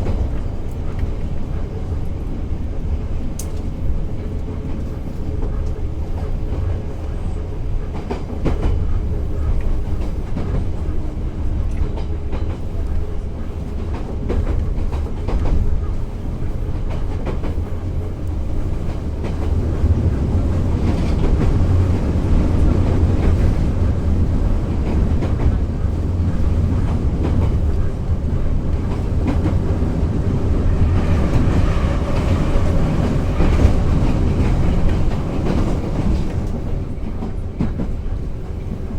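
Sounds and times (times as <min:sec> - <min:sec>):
train low rumble: 0:00.0 - 0:38.9.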